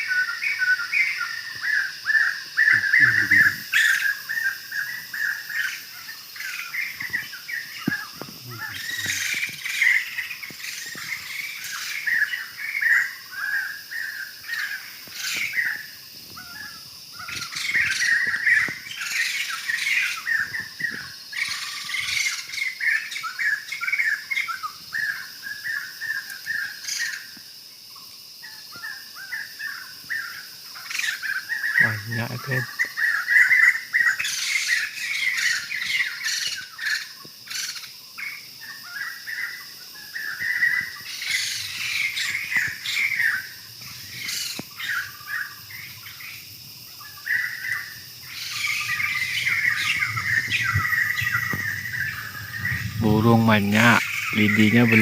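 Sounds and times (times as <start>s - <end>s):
birds chirping and chattering: 0.0s - 27.4s, 28.0s - 55.0s.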